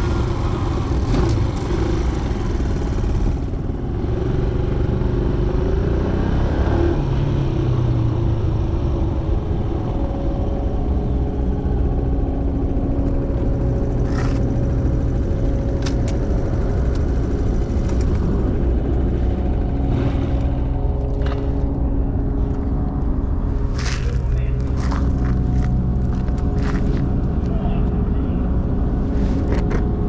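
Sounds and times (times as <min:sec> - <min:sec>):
motorcycle engine running: 0:00.0 - 0:06.5, 0:07.2 - 0:27.6
road and wind noise: 0:00.0 - 0:30.0.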